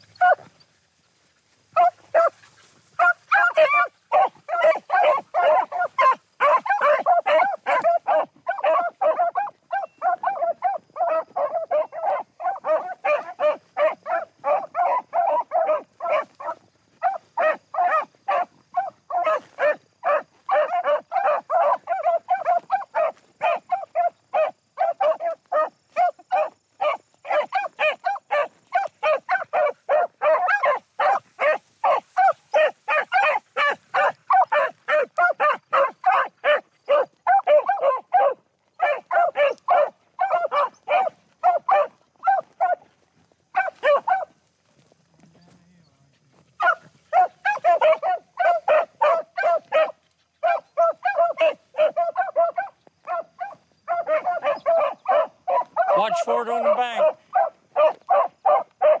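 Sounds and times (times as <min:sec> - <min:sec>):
beagles baying: 0:00.0 - 0:00.6, 0:01.7 - 0:45.5, 0:46.5 - 0:59.0.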